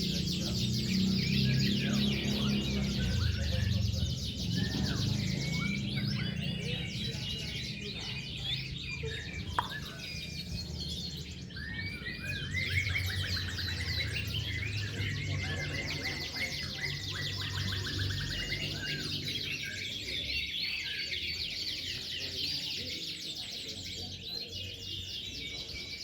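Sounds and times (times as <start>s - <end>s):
canaries singing: 0.0s - 26.0s.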